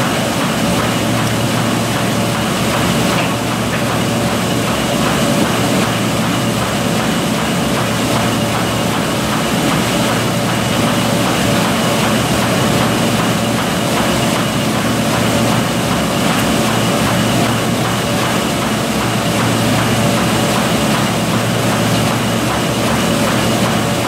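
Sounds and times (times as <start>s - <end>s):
constant machine hum: 0.0s - 24.0s
envelope machine mechanical din: 0.0s - 24.0s.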